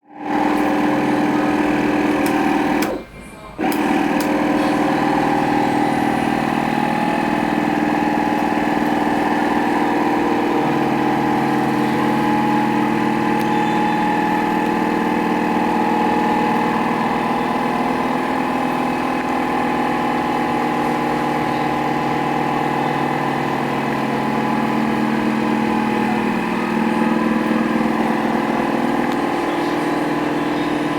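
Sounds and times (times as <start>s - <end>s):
floor cleaner motor humming: 0.0s - 30.9s.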